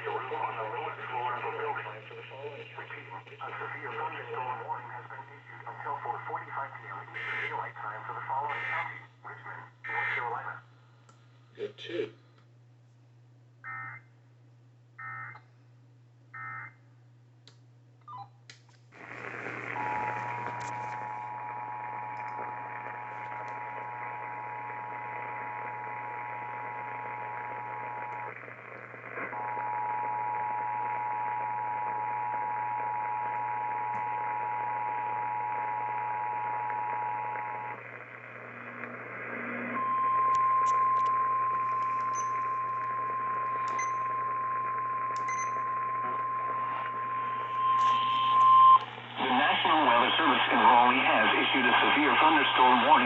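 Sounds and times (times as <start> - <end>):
radio hiss: 0.0 - 10.7, 11.6 - 12.2, 19.0 - 53.0.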